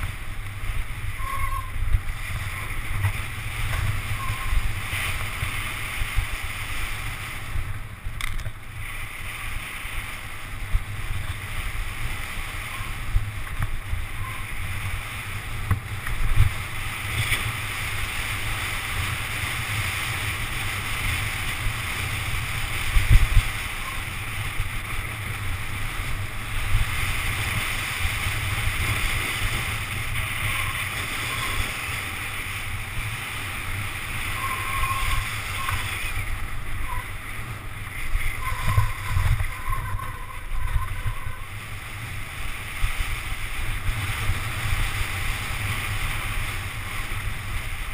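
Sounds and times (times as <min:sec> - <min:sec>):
bike rattling over bumps: 0:00.0 - 0:47.9
wind buffeting microphone: 0:00.0 - 0:47.9.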